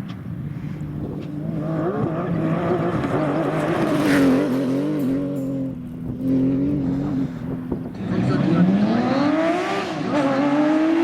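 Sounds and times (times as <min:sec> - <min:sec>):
rally car engine revving: 0:00.9 - 0:11.0.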